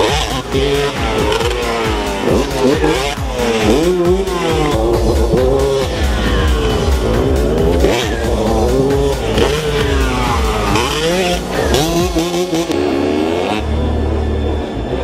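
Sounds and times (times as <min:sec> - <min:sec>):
loud music with heavy bass: 0:00.0 - 0:15.0
motorcycle engines revving: 0:00.0 - 0:15.0.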